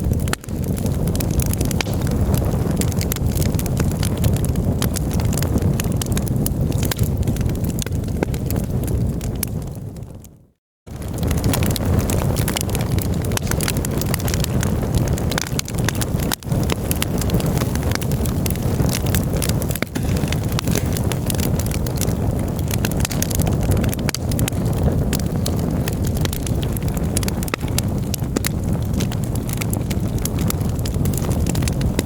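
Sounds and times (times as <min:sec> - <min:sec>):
fire low rush: 0:00.0 - 0:08.1, 0:11.0 - 0:32.0
campfire crackling and popping: 0:00.0 - 0:32.0.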